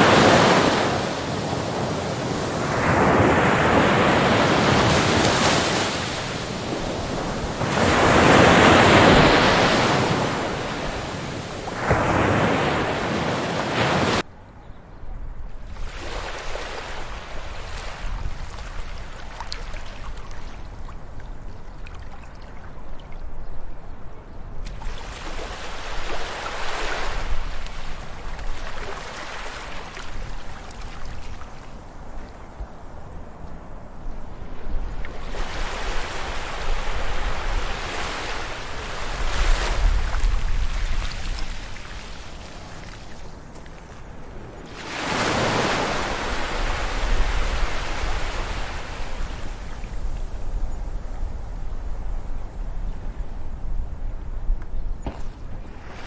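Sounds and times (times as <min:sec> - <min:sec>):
ocean waves breaking on beach: 0:00.0 - 0:14.2, 0:15.7 - 0:21.0, 0:24.7 - 0:32.6, 0:34.2 - 0:51.3, 0:55.1 - 0:56.0.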